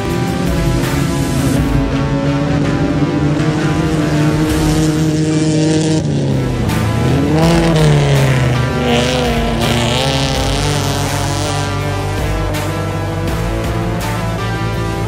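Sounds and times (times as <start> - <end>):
background music: 0.0 - 15.0
race car engine revving: 0.0 - 15.0.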